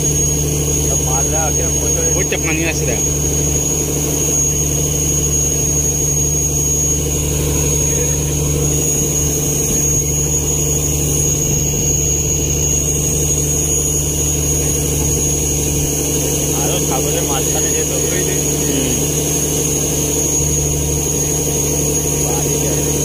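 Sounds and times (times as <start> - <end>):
boat engine drone: 0.0 - 23.0
high whine: 0.0 - 23.0.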